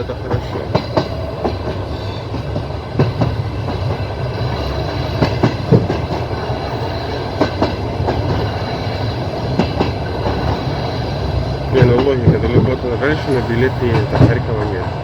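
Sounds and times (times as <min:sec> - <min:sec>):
low train rumble: 0:00.0 - 0:15.0
train wheels clacking over rail joints: 0:00.0 - 0:15.0.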